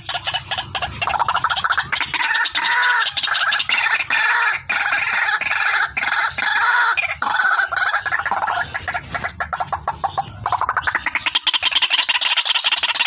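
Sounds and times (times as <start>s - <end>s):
bird calling in pulsed notes: 0.0s - 13.0s.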